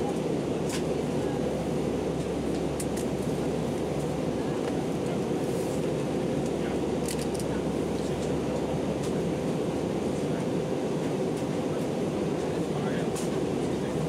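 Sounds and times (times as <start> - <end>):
airliner cabin engine roar: 0.0 - 14.0.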